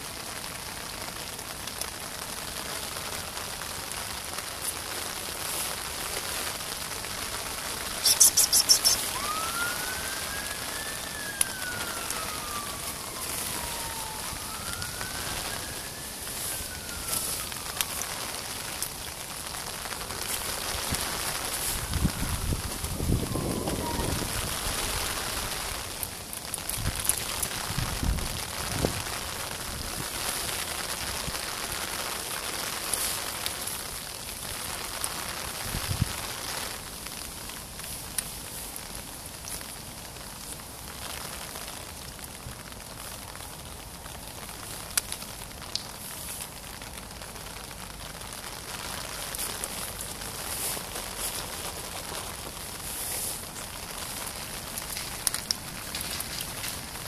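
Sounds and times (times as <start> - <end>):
rain falling: 0.0 - 57.0
raindrops ticking close by: 0.0 - 57.0.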